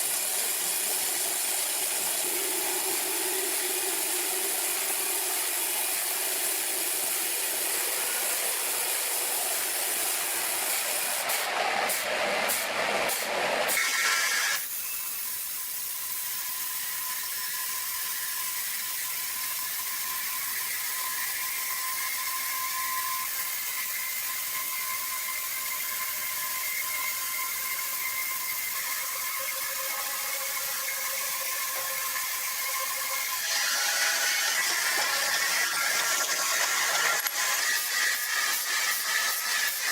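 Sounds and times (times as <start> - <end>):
sawmill machinery running: 0.0 - 15.5, 20.2 - 39.9.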